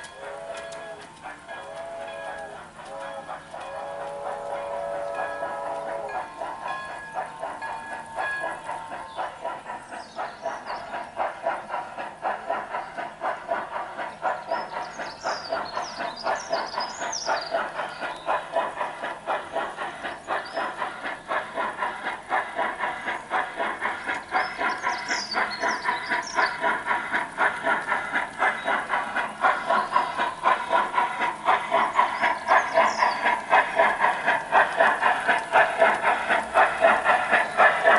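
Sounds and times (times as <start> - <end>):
model steam locomotive chuffing: 0.0 - 37.9.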